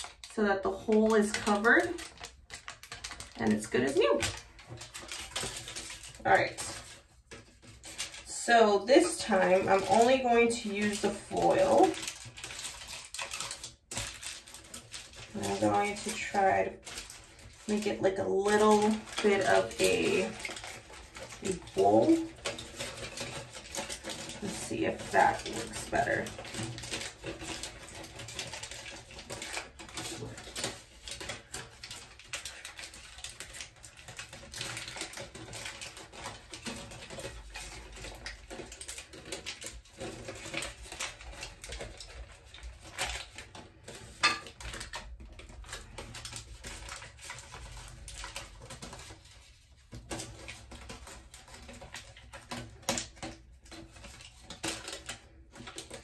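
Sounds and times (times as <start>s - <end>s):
aluminum foil crinkling: 0.0s - 56.0s.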